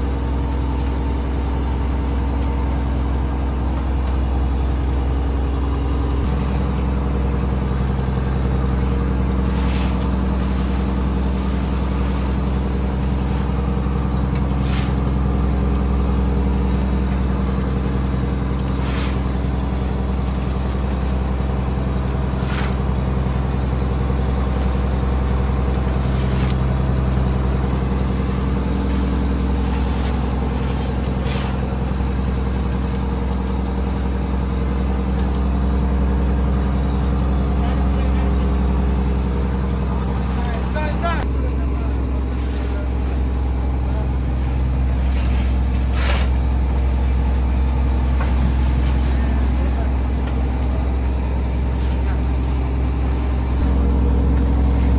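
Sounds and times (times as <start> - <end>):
diesel engine drone: 0.0 - 54.9
high whine: 0.0 - 54.9.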